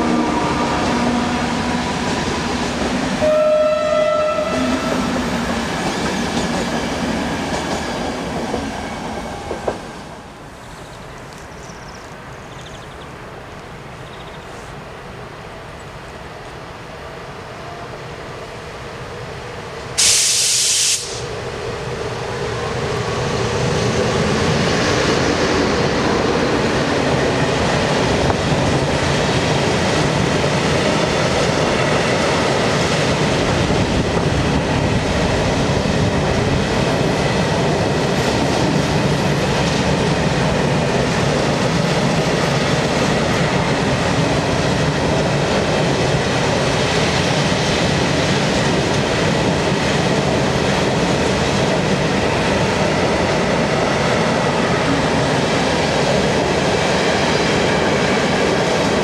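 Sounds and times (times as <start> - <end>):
electric locomotive passing: 0.0 - 59.0
train wheels on track: 0.0 - 59.0.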